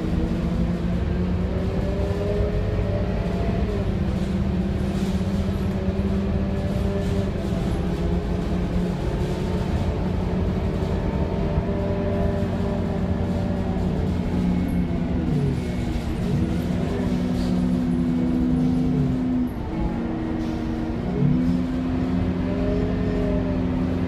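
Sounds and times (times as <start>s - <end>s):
bus diesel engine droning: 0.0s - 24.0s.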